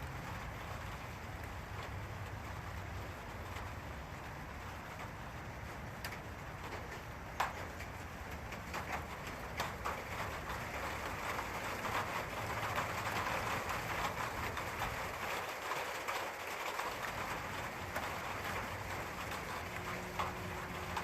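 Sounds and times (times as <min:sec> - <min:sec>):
raindrops tapping close by: 0:00.0 - 0:21.0
steady rain falling: 0:00.0 - 0:21.0.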